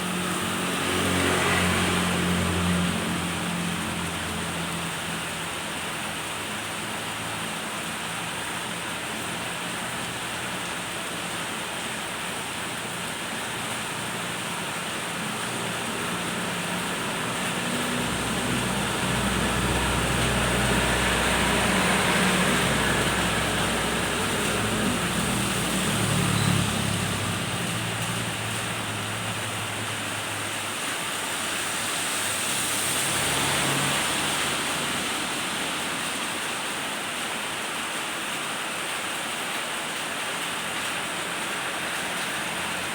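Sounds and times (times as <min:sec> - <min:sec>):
steady rain pouring: 0:00.0 - 0:42.9.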